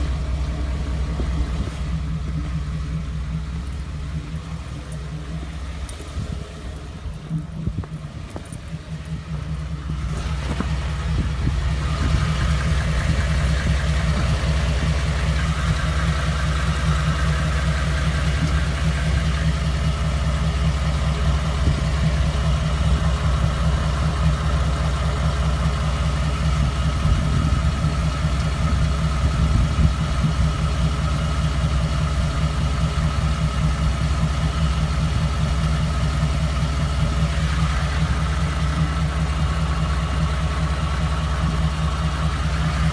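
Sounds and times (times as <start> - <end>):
engine ticking: 0.0 - 42.9
truck engine idling: 0.0 - 42.9.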